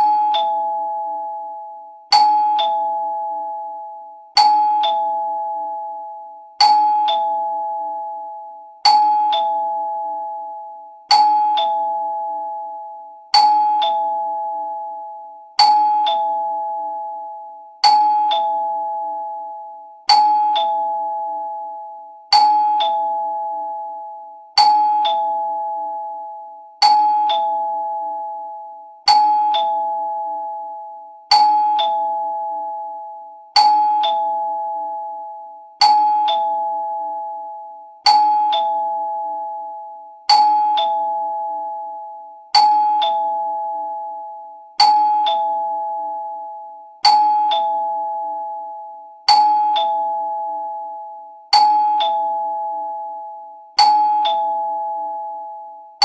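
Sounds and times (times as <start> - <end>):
two-note doorbell chime: 0.0 - 56.0.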